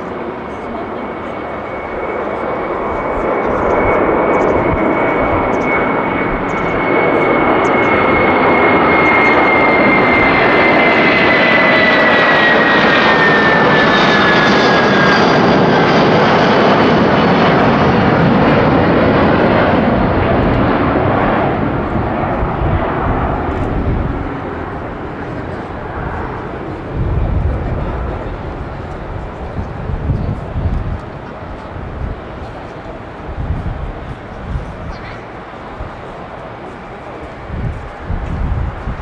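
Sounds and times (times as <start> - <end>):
jet engine roar with high whine: 0.0 - 39.0.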